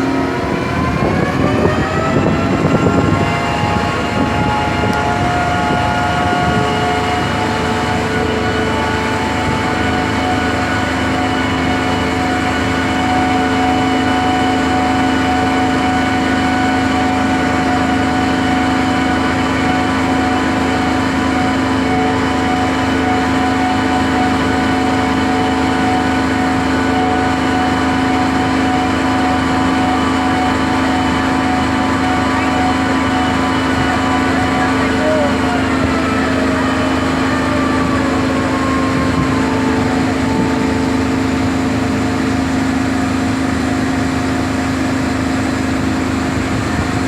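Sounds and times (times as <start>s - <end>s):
engine humming steadily: 0.0s - 47.0s.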